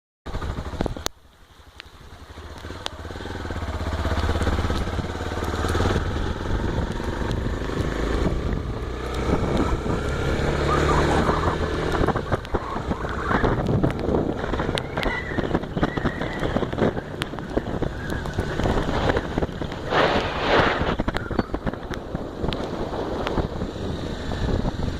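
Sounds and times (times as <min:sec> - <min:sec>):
motorcycle engine: 0:00.3 - 0:24.9
wind and road noise: 0:00.3 - 0:24.9.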